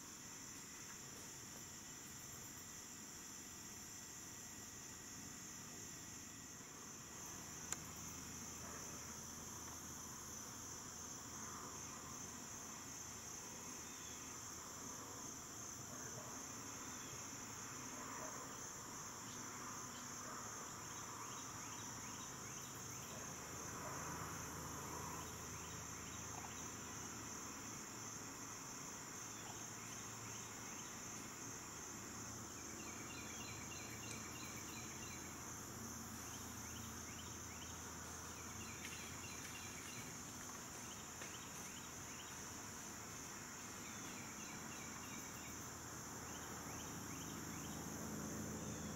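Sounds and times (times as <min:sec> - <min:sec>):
insects droning: 0:00.0 - 0:48.9
rapid insect chirps: 0:00.0 - 0:48.9.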